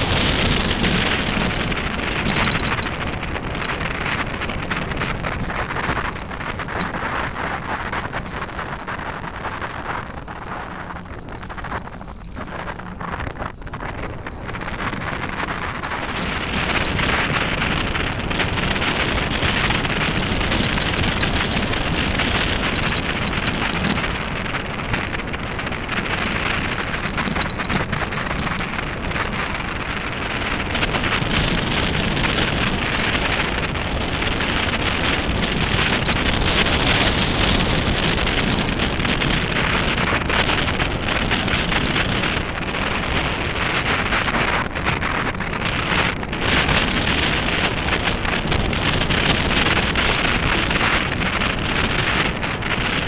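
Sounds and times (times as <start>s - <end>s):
bike tyres rolling over gravel: 0.0s - 53.0s
wind buffeting microphone: 0.0s - 53.0s.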